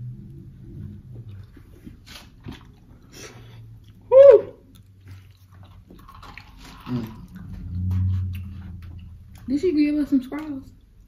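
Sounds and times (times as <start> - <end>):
chewing and mouth smacks: 0.3 - 11.0.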